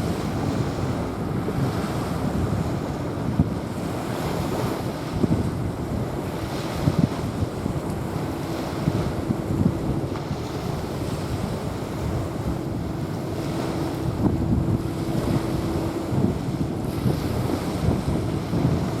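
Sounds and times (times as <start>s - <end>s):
small waves washing onto sand: 0.0s - 19.0s
wind buffeting microphone: 0.0s - 19.0s.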